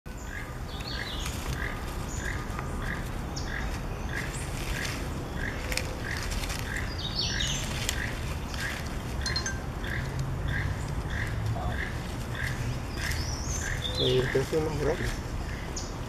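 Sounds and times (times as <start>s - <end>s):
dry leaves rustling: 0.1s - 16.0s.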